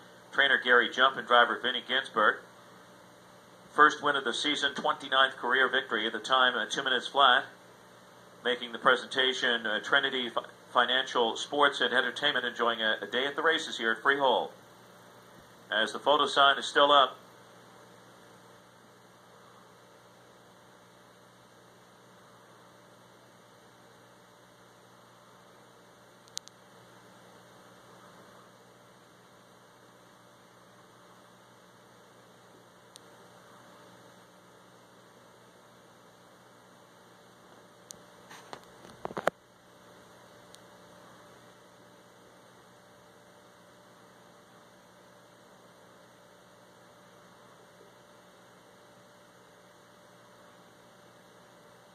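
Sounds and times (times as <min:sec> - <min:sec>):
electrical hum: 0:00.0 - 0:51.9.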